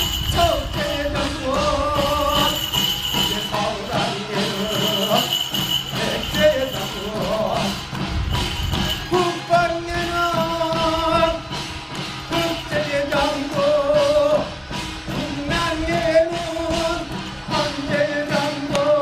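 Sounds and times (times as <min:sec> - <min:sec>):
quick percussion strokes: 0:00.0 - 0:19.0.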